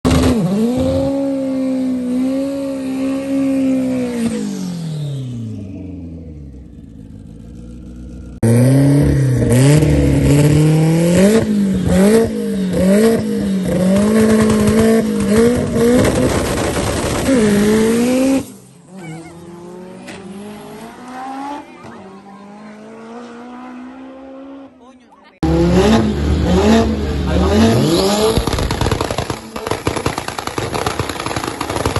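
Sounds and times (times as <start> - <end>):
race car engine revving: 0.1 - 24.8, 25.4 - 31.8
faint engine accelerating: 0.1 - 29.8.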